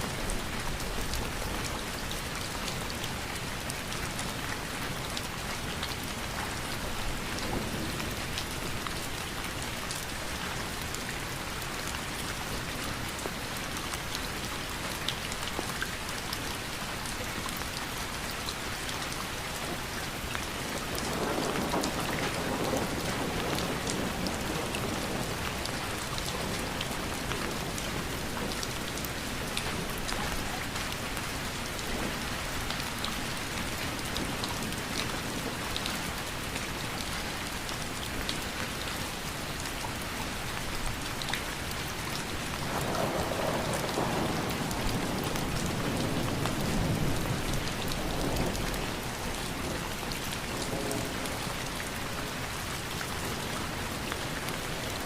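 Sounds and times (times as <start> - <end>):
raindrops ticking on a surface: 0.0 - 55.0
steady rain falling: 0.0 - 55.0.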